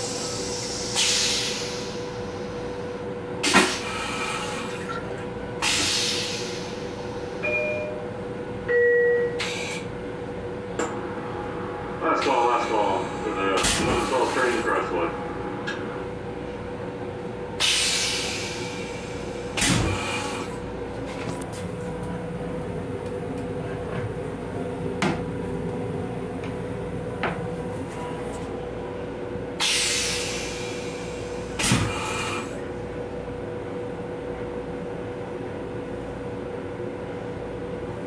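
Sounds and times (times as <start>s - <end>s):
train car hum and rumble: 0.0s - 38.0s.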